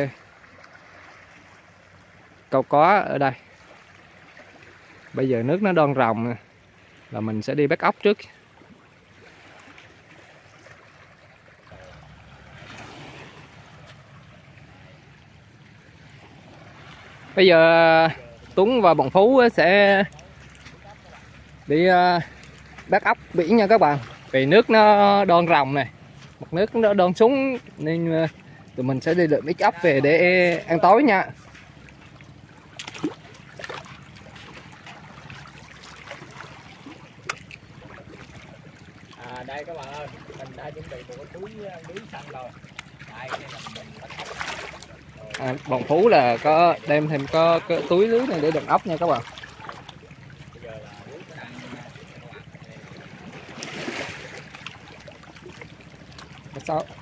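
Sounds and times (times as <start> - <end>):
short splashes: 0.0 - 5.7, 8.0 - 57.0
sea waves washing on shore: 0.0 - 57.0
water lapping among rocks: 0.0 - 57.0.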